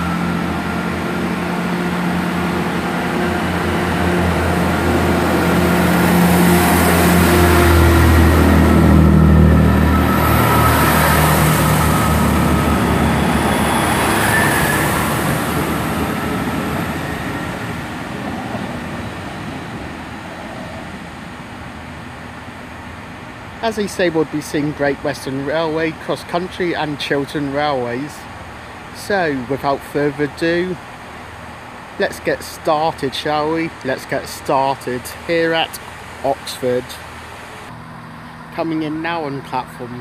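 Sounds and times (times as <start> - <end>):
wheel and rail noise: 0.0 - 39.2
diesel train engines droning: 0.0 - 40.0.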